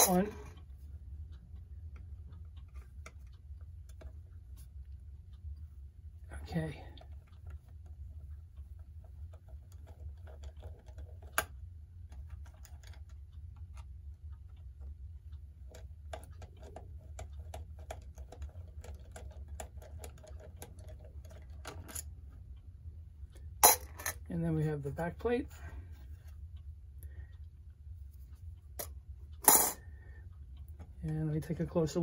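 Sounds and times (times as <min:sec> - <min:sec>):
clock parts clicking and tapping: 0:00.0 - 0:32.0.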